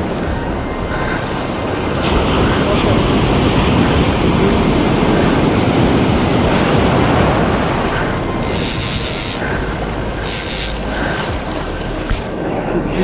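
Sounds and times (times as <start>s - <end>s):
surf breaking and churning: 0.0s - 13.0s
wind buffeting microphone: 0.0s - 13.0s.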